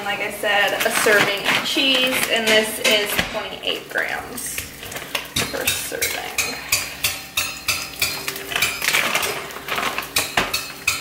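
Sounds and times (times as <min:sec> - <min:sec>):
food clattering over frying pan: 0:00.7 - 0:03.5, 0:04.8 - 0:11.0.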